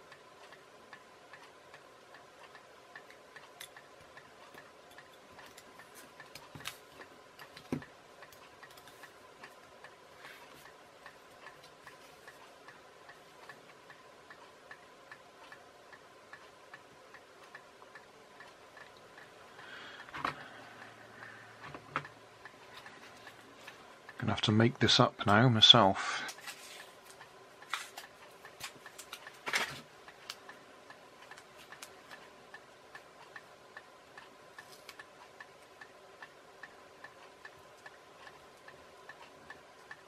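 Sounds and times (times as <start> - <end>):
clock ticking: 0.0 - 40.0
faint steady hum: 0.0 - 40.0.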